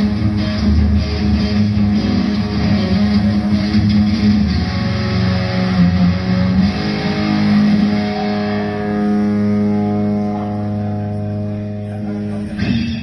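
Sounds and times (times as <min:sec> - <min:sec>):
amplified electric guitar: 0:00.0 - 0:13.0.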